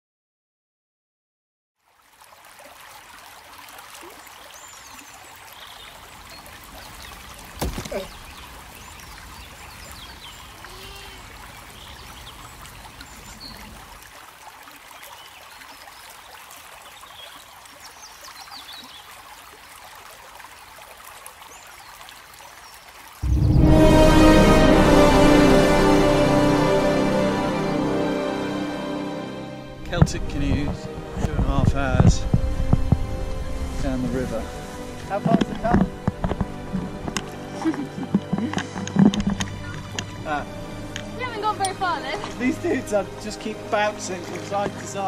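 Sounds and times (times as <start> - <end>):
river trickling over stones: 1.8 - 27.7, 29.8 - 45.0.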